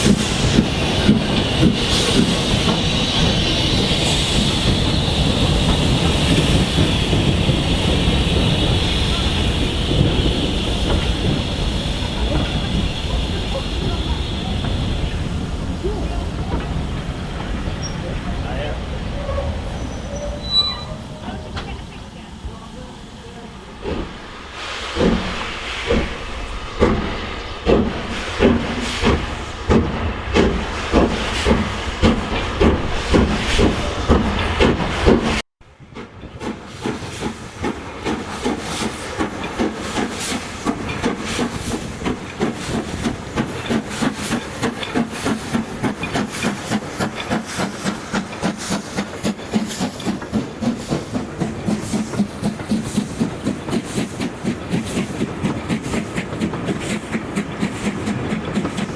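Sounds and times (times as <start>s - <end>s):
steam hiss: 0.0s - 35.4s, 36.4s - 58.9s
steam locomotive exhaust beats: 0.0s - 58.9s.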